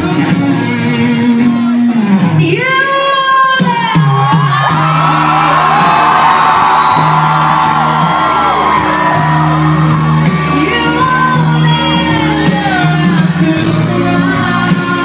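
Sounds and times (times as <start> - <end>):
crowd screaming and cheering: 0.0 - 15.0
live music: 0.0 - 15.0
singer's voice: 0.0 - 15.0.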